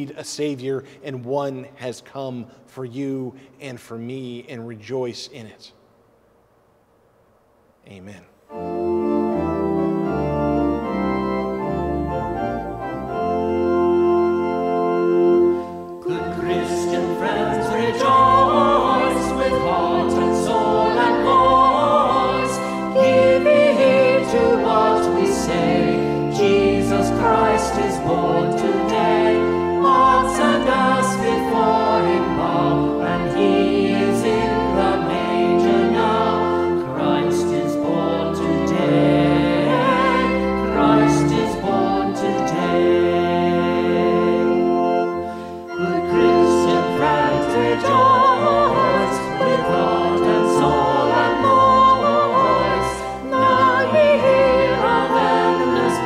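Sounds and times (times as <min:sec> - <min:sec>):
organ chords: 0:07.8 - 0:56.0
singing with accompaniment: 0:07.9 - 0:56.0.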